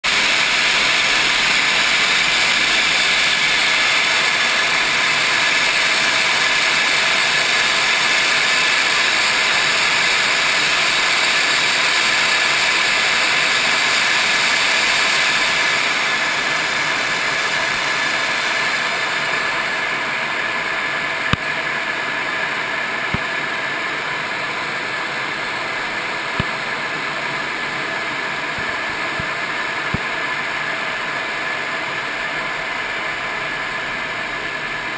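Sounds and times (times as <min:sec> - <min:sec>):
jet engine and airflow noise: 0:00.0 - 0:34.9.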